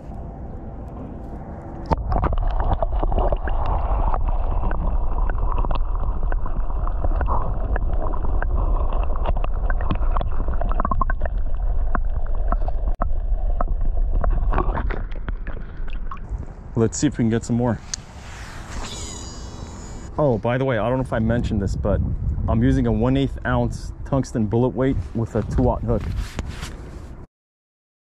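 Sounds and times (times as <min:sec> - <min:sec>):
low underwater rumble: 0:00.0 - 0:25.9
muffled water sloshing underwater: 0:00.0 - 0:27.2.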